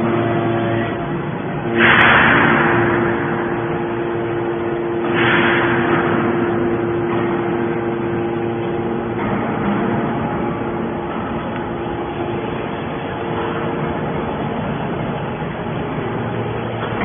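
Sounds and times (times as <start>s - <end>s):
hydraulic machine humming: 0.0s - 17.0s.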